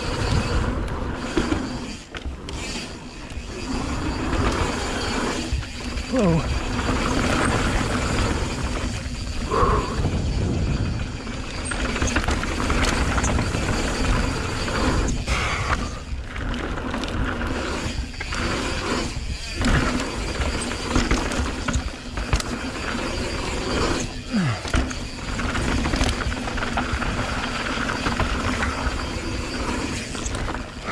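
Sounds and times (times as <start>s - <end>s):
bike chain and frame rattling: 0.0s - 30.9s
bike freehub clicking: 0.0s - 30.9s
bike tyres over loose stones: 0.0s - 30.9s.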